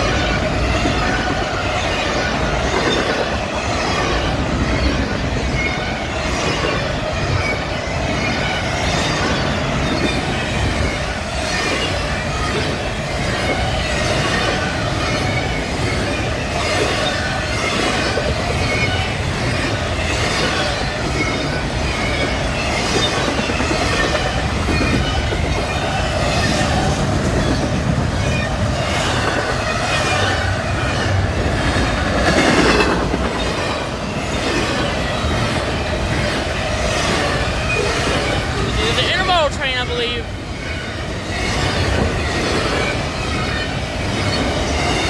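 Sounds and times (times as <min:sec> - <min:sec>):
freight train wheels clattering: 0:00.0 - 0:38.8.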